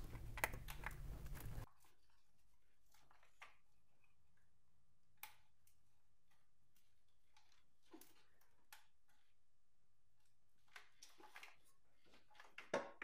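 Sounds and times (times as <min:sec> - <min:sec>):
faint clicking and handling: 0:00.0 - 0:13.0.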